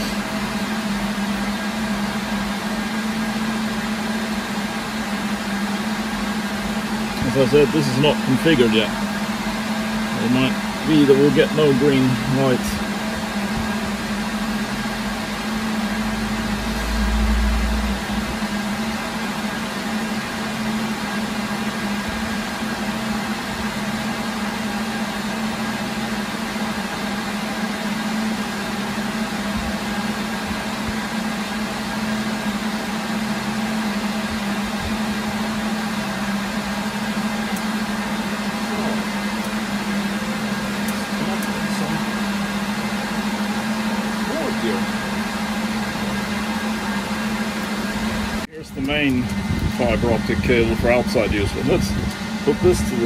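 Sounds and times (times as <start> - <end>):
server cooling fans whirring: 0.0 - 53.0.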